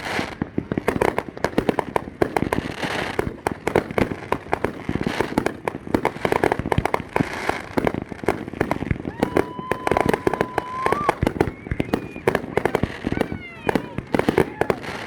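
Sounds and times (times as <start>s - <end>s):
fireworks banging and crackling: 0.0s - 15.0s.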